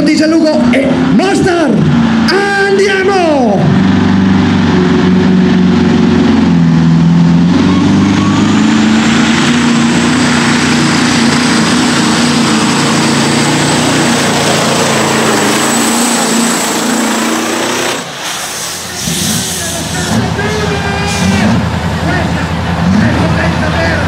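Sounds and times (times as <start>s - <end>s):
tractor engine at full power: 0.0s - 24.0s.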